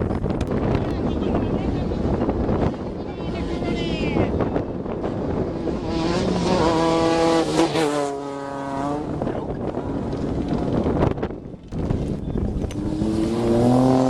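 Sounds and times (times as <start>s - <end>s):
race vehicle engine passing at speed: 1.7s - 11.2s, 11.9s - 14.0s.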